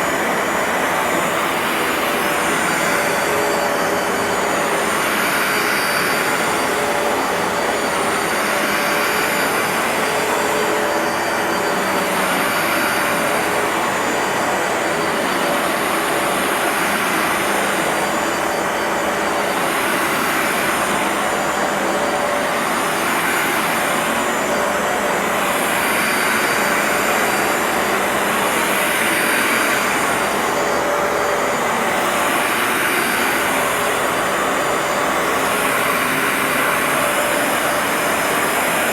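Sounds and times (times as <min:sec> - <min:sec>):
carpet cleaner motor running: 0:00.0 - 0:38.9.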